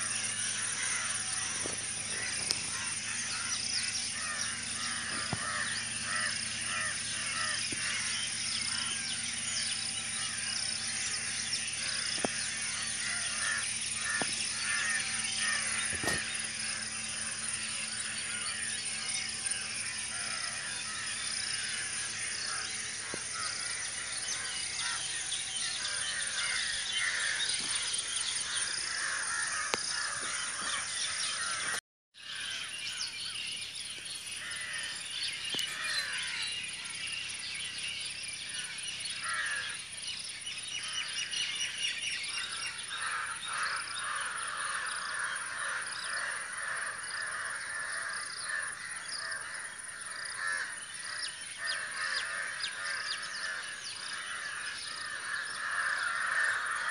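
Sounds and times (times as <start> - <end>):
crows cawing: 0.0 - 9.2, 10.1 - 32.7, 34.4 - 36.6, 38.5 - 39.8, 42.3 - 56.9
birds calling and chirping: 0.0 - 56.9.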